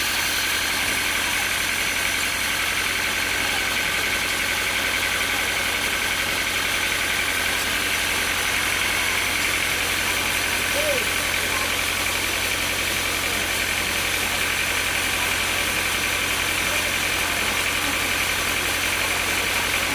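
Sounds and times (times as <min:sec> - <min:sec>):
high machinery whine: 0:00.0 - 0:19.9.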